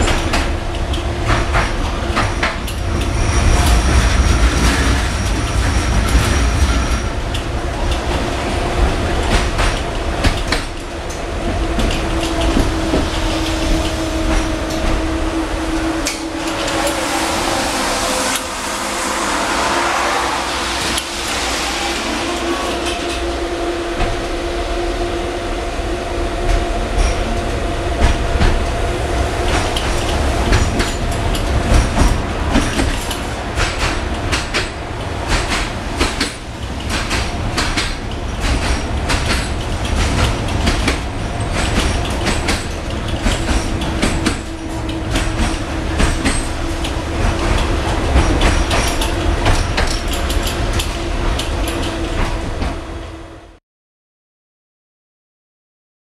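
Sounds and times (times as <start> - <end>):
wheels clacking over rail joints: 0.0 - 19.0, 26.4 - 52.8
tram rumble: 0.0 - 53.6
tram whine: 0.0 - 53.6.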